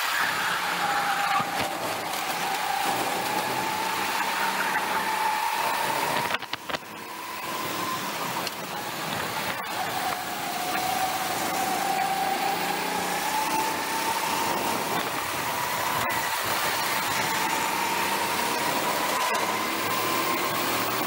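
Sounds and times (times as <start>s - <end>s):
go-kart engine accelerating: 0.0s - 21.0s.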